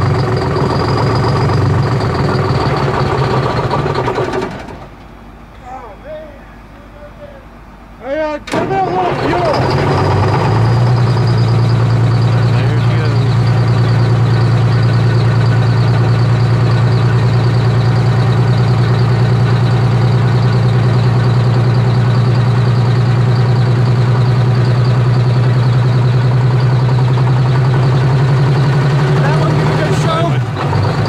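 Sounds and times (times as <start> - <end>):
bus diesel engine idling: 0.0 - 31.0.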